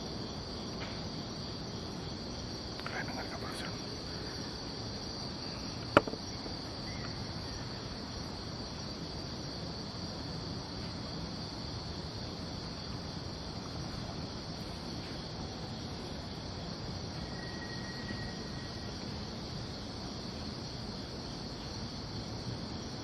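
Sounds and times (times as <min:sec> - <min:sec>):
crickets trilling: 0:00.0 - 0:23.0
faint background hiss: 0:00.0 - 0:23.0.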